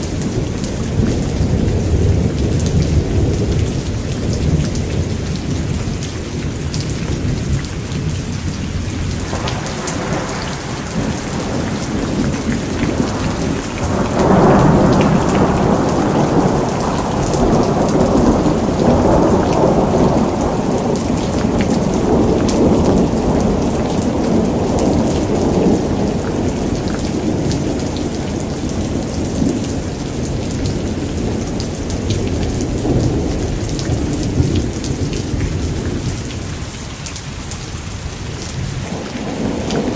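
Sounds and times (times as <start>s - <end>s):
steady rain: 0.0s - 39.9s
thunder rolling: 0.2s - 36.1s, 38.6s - 39.9s.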